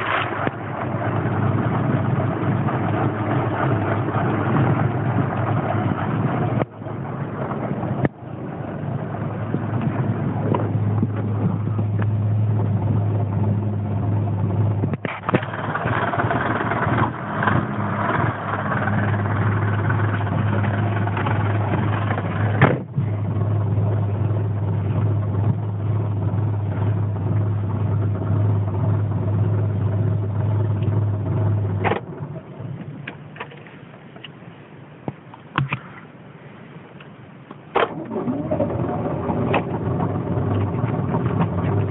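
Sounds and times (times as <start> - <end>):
car engine running: 0.0 - 34.3, 37.8 - 41.9.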